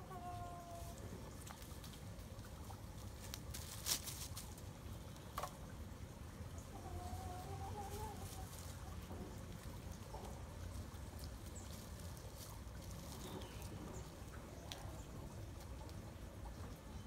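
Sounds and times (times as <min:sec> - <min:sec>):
chickens rustling in dry leaves: 0:00.0 - 0:17.0.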